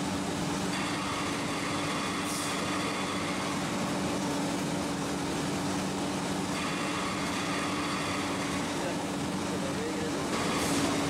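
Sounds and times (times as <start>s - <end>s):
packing machine hum and din: 0.0s - 11.0s.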